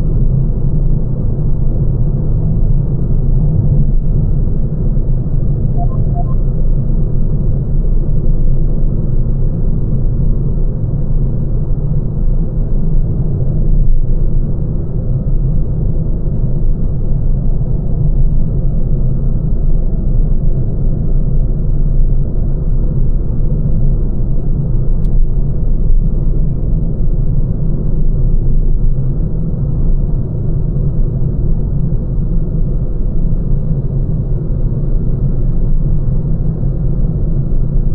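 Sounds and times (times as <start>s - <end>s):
road and tyre noise in car: 0.0s - 37.9s.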